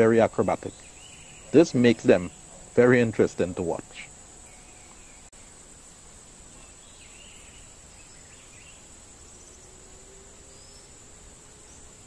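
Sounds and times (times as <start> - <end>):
faint bird chirps: 0.0 - 5.6, 6.4 - 12.0
background hiss: 0.0 - 12.0
crickets droning: 0.0 - 12.0.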